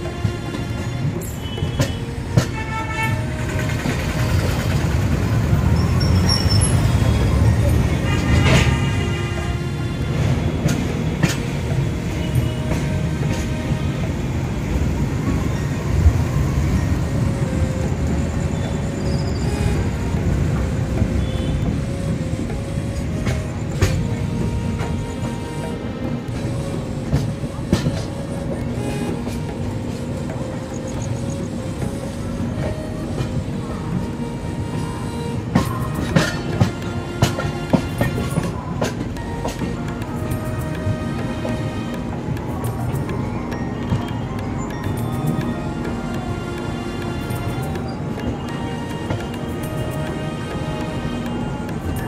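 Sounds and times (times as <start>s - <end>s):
train horn: 0.0s - 44.4s, 45.0s - 52.0s
train rumbling: 0.0s - 52.0s
wheels clicking over rail joints: 0.0s - 52.0s.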